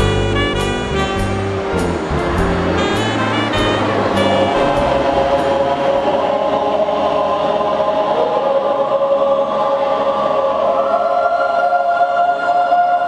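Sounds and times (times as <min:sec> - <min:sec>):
choir singing sustained chord: 0:00.0 - 0:13.0.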